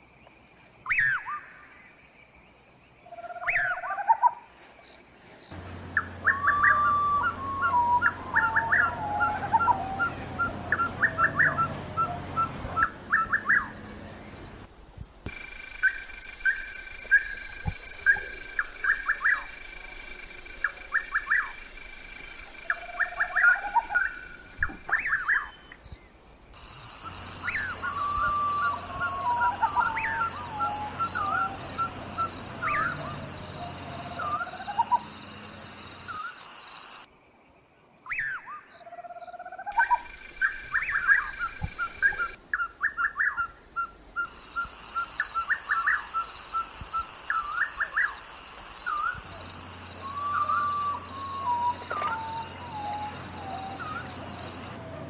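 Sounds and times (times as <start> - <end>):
wild birds chirping and whistling: 3.0 - 4.5, 5.1 - 14.7, 15.3 - 26.1, 27.0 - 36.4, 38.1 - 55.0.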